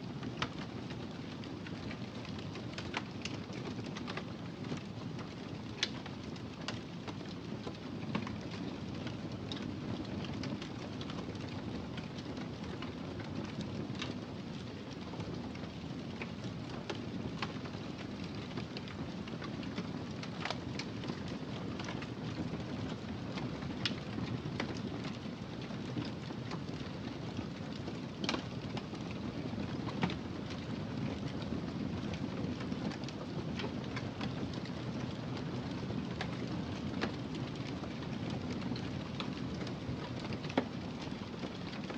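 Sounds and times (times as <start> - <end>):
wood fire crackling: 0.1 - 41.9.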